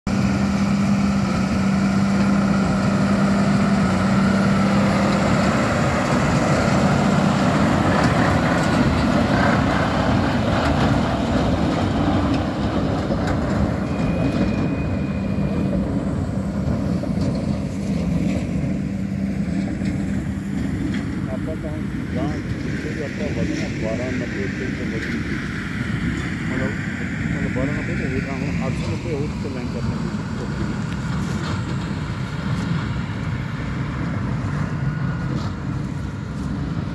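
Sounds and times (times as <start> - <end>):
baler machinery running: 0.1 - 36.9
tractor engine drone: 0.1 - 36.9.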